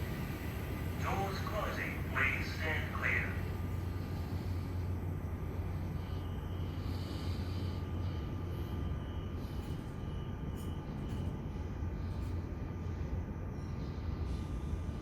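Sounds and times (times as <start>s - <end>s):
faint electric whine: 0.0s - 15.0s
train rumbling: 0.0s - 15.0s.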